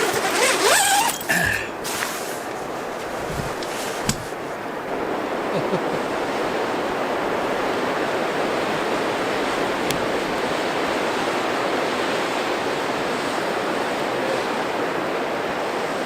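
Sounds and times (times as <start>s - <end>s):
blizzard wind blowing: 0.7s - 16.0s
wind buffeting microphone: 1.6s - 16.0s.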